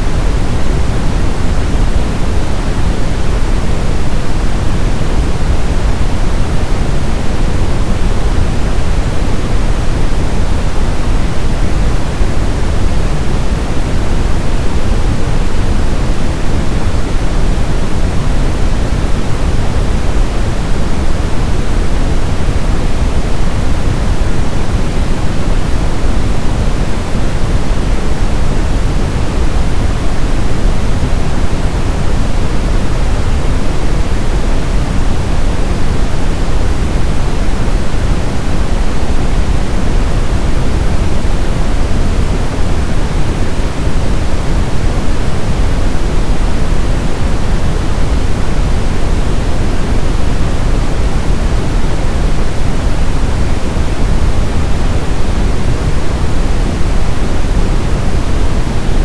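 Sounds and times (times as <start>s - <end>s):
brown noise: 0.0s - 59.0s.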